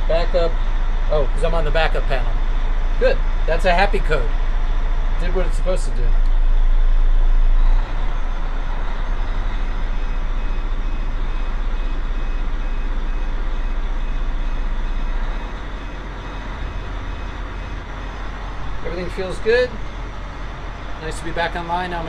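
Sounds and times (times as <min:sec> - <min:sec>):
marine diesel engines running: 0:00.0 - 0:22.0.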